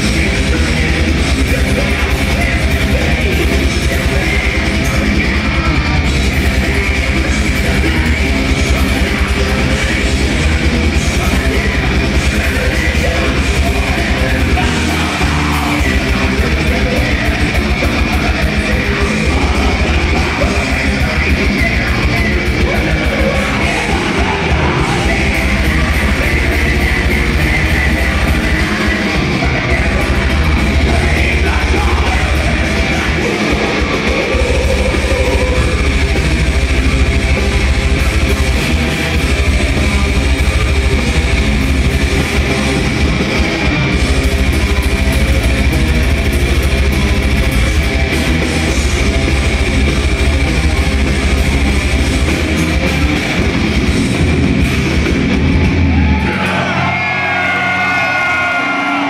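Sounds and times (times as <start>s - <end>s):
distorted electric guitars: 0.0s - 59.0s
fast dense drumming: 0.0s - 59.0s
harsh shouted vocals: 0.0s - 59.0s.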